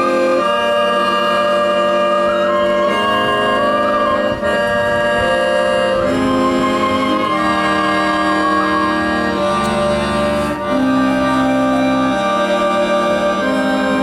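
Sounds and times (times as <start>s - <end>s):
held chords: 0.0s - 14.0s
ornamented wind instrument melody: 0.0s - 14.0s.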